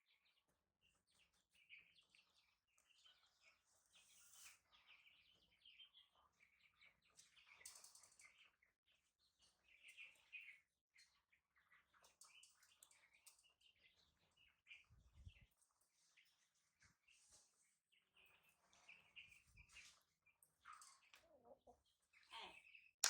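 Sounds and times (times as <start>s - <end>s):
faint high chirps and squeaks: 0.0s - 23.0s.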